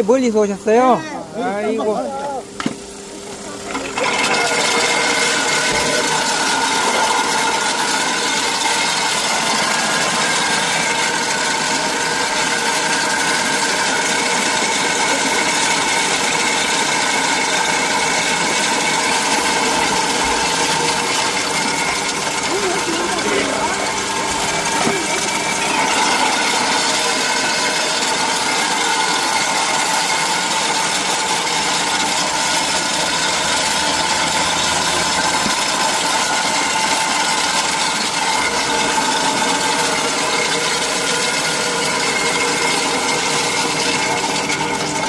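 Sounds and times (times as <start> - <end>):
peeling machine running: 0.0 - 45.0.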